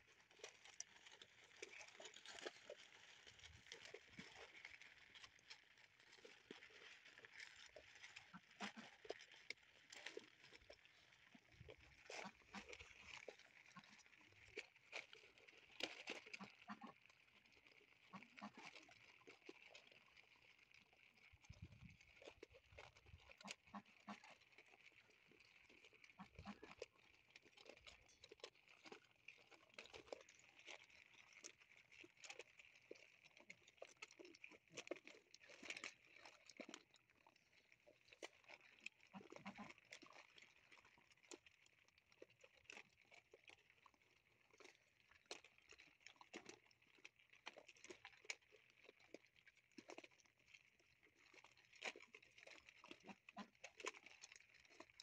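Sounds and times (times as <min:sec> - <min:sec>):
puppies crunching kibble: 0:00.0 - 0:55.0.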